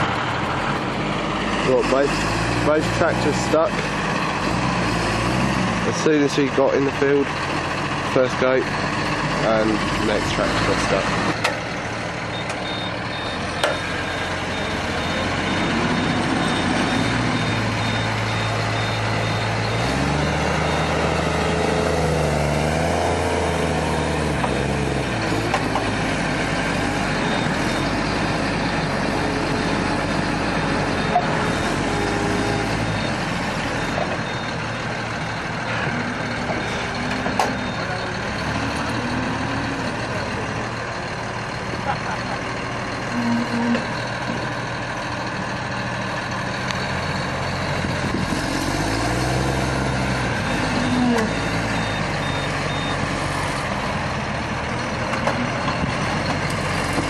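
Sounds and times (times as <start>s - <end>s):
large vehicle engine under load: 0.0s - 57.0s.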